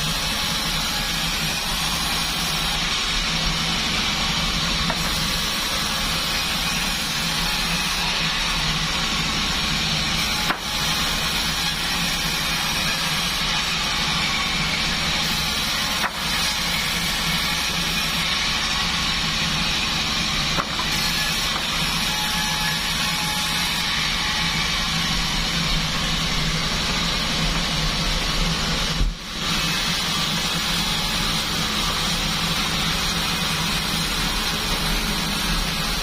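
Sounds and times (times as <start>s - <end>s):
band saw sawing wood: 0.0s - 36.0s.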